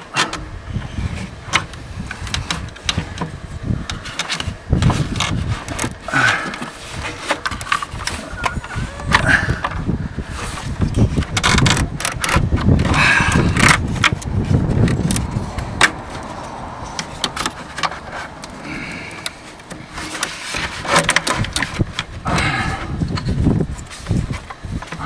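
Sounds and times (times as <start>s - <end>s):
low handling rumble: 0.0s - 20.8s, 21.4s - 25.0s
car parts clicking and scraping: 0.0s - 25.0s.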